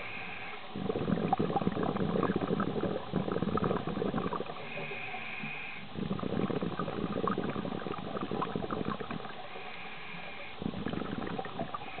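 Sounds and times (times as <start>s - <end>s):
regulator hissing inhale: 0.0s - 7.7s, 8.5s - 12.0s
underwater exhale bubbling: 0.7s - 12.0s.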